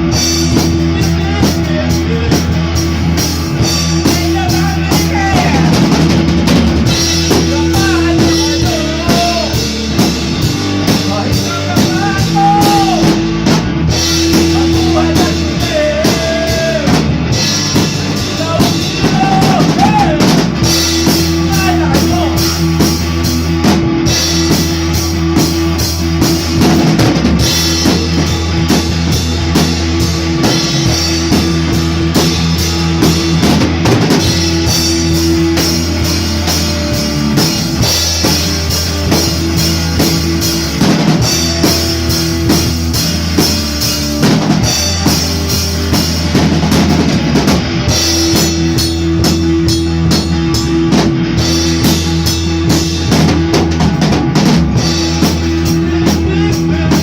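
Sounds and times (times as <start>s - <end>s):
drum kit beat: 0.0s - 57.0s
rock music: 0.0s - 57.0s.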